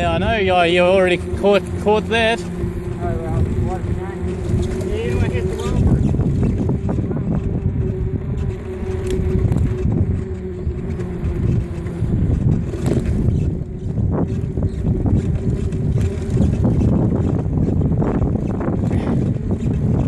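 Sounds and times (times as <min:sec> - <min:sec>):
steady hum: 0:00.0 - 0:20.0
wind buffeting microphone: 0:00.0 - 0:20.0.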